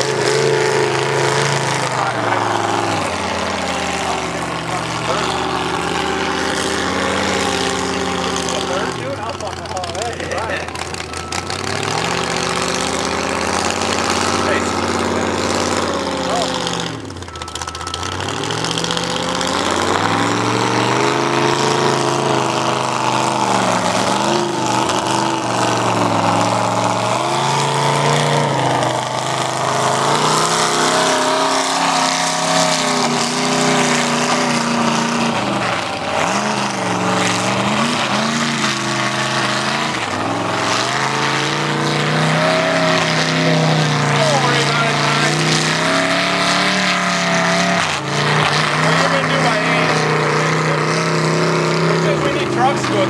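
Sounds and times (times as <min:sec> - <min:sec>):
truck churning through mud: 0:00.0 - 0:53.0
truck engine revving: 0:00.0 - 0:53.0.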